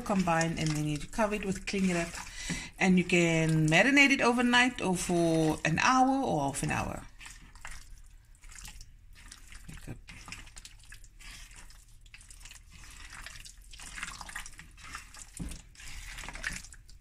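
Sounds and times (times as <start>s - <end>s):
hand squelching meat in marinade: 0.0s - 6.0s, 6.6s - 17.0s.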